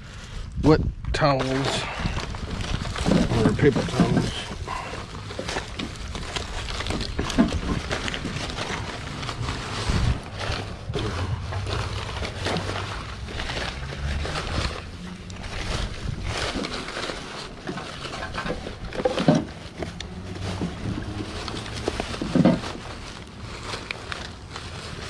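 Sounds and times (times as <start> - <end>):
plastic bag and paper rustling: 0.0 - 25.0.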